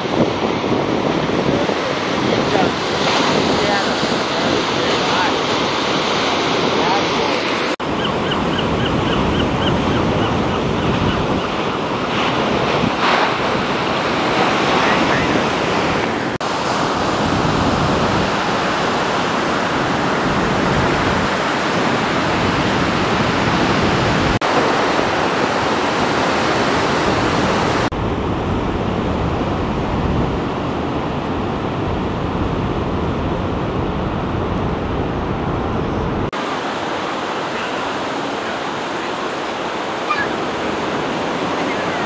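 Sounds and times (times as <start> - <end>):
ocean surf breaking: 0.0 - 42.0.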